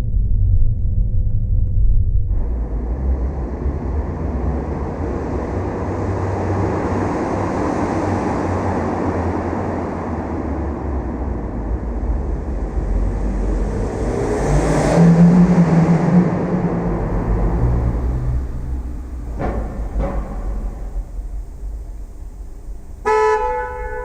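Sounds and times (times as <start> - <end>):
car engine rumble: 0.0 - 24.0
tyre and road noise: 0.6 - 24.0.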